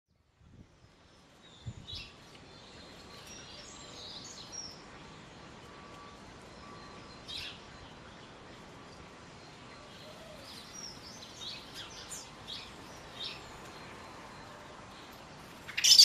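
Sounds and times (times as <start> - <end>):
outdoor background noise: 0.1 - 16.0
small birds chirping: 0.1 - 16.0.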